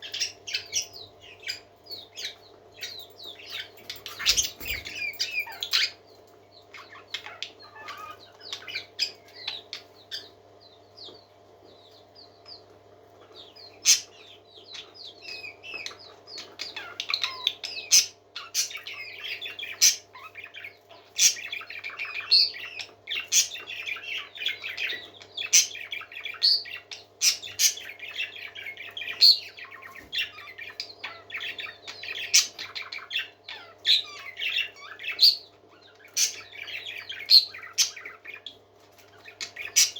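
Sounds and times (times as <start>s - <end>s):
parakeets chattering: 0.0s - 39.9s.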